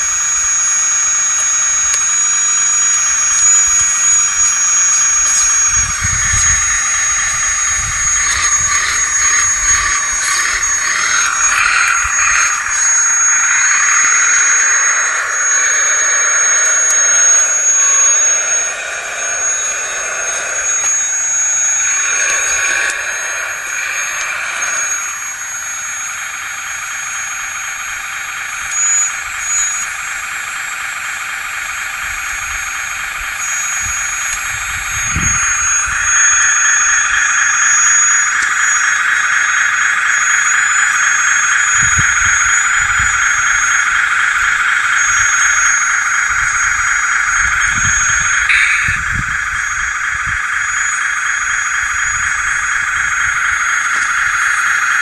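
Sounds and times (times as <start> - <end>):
hydraulic pump motor whine: 0.0 - 55.0.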